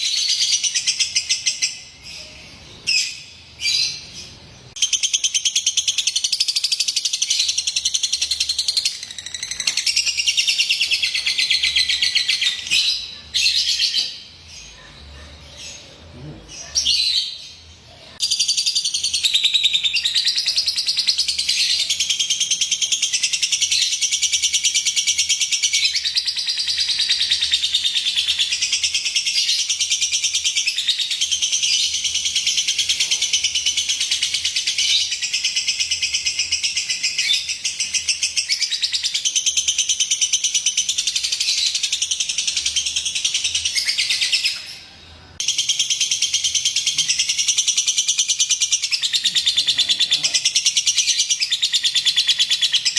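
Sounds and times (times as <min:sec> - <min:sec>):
lovebird chirping: 0:00.0 - 0:52.9.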